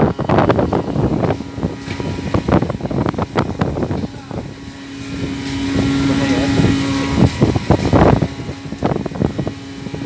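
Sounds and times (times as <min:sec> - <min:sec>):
boat engine humming: 0:00.0 - 0:10.0
wind on microphone: 0:00.0 - 0:10.0.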